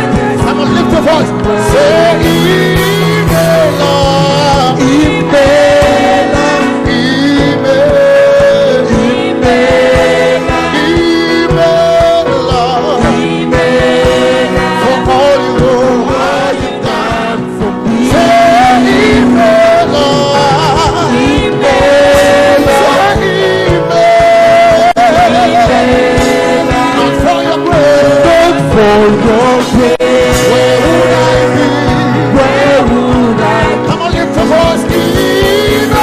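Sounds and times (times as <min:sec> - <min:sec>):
band playing: 0:00.0 - 0:36.0
congregation singing: 0:00.0 - 0:36.0
person singing gospel: 0:00.0 - 0:36.0.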